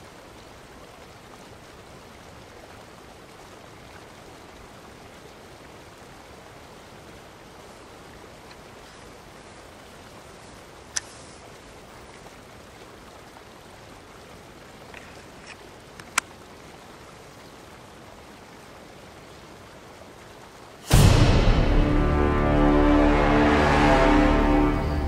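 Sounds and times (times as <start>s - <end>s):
steady outdoor hiss: 0.0s - 25.0s.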